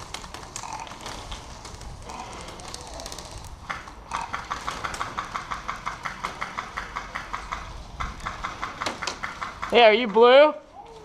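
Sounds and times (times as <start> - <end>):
rapid sharp clicks: 0.0 - 10.2.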